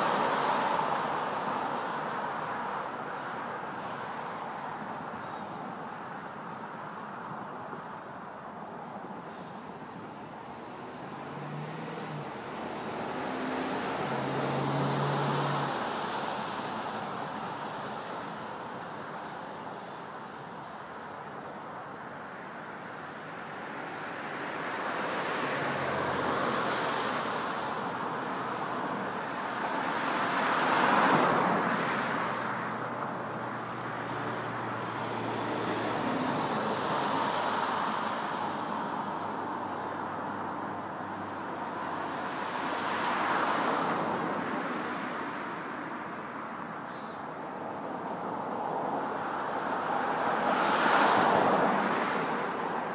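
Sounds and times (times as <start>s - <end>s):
vehicles passing: 0.0s - 52.9s.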